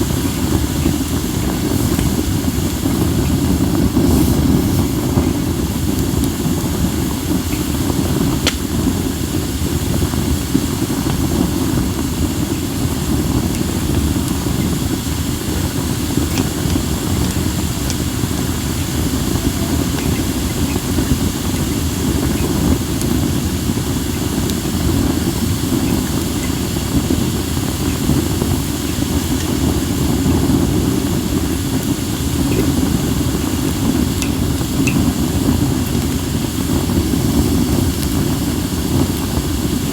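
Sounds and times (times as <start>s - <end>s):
firewood crackling and popping: 0.0s - 39.9s
wind buffeting microphone: 0.0s - 39.9s.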